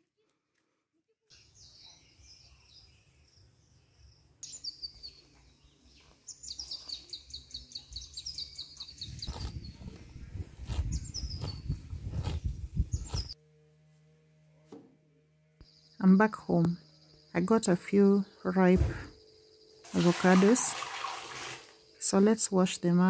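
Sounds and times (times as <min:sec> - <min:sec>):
birds chirping: 0:01.3 - 0:13.4, 0:15.6 - 0:23.0.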